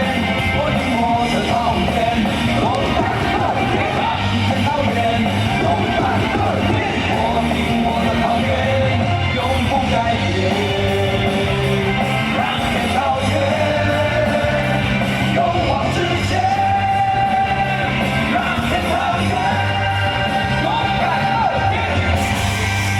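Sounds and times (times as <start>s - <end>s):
loud rock song: 0.0s - 22.9s.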